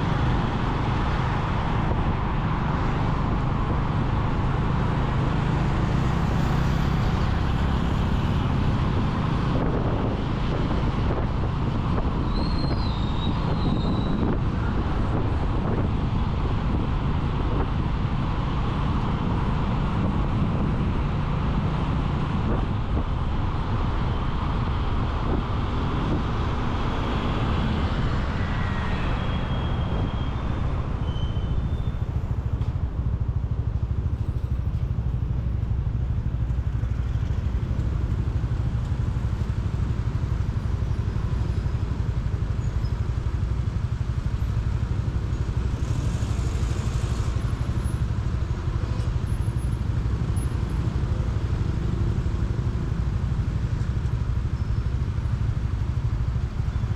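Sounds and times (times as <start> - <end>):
city traffic noise: 0.0 - 56.9.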